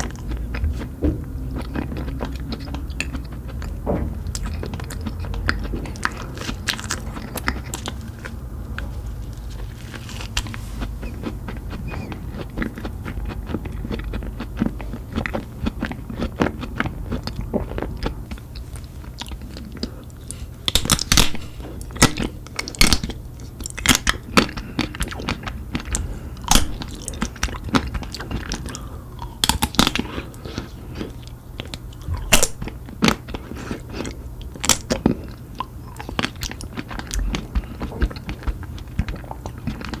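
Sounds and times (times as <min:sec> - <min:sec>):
crunchy chewing of ice cream: 0:00.0 - 0:40.0.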